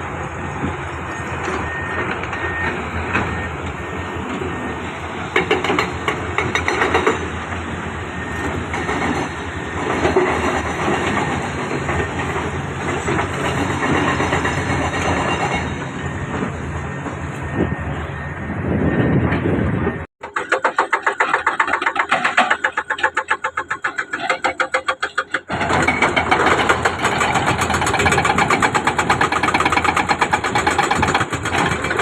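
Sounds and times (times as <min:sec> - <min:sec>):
construction machinery clattering: 0:00.0 - 0:17.7, 0:18.8 - 0:32.0.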